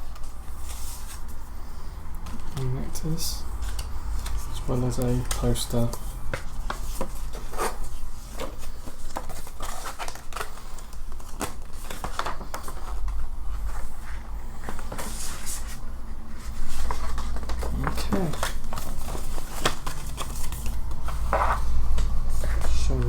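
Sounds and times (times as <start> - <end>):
paper rustling and crinkling: 0.0 - 23.0.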